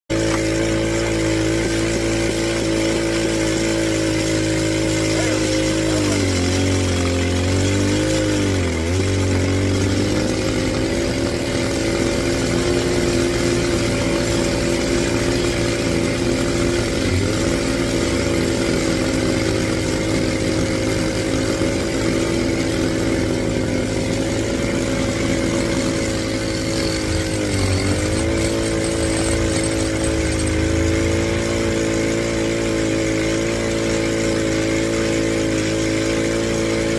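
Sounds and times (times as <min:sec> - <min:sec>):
rock drill engine running: 0:00.1 - 0:36.9.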